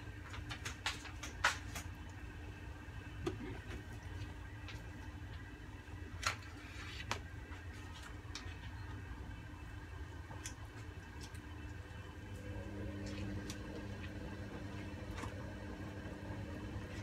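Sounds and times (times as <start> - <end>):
pot simmering: 0.0 - 17.0.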